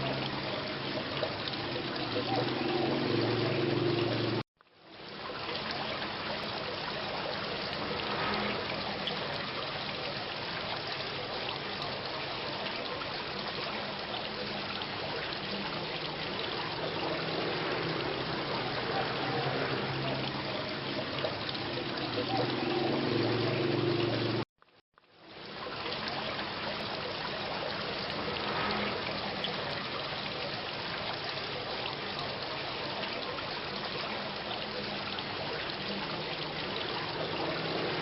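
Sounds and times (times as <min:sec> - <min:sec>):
steady rain falling: 0:00.0 - 0:38.0
water trickling: 0:00.0 - 0:38.0.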